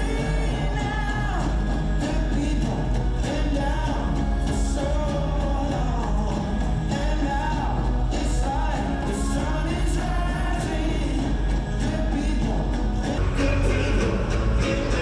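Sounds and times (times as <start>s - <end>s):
person singing with band: 0.0s - 15.0s.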